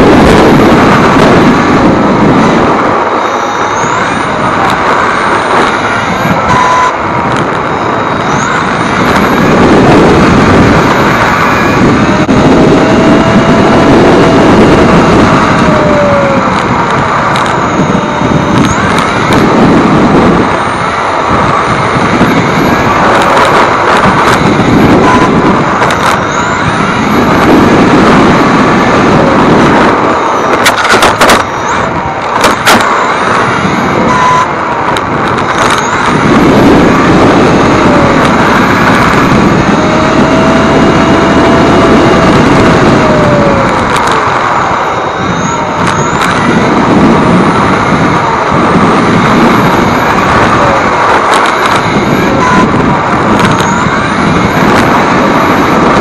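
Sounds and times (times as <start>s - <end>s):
electric motor whining: 0.0s - 56.0s
tyre and wind noise: 0.0s - 56.0s.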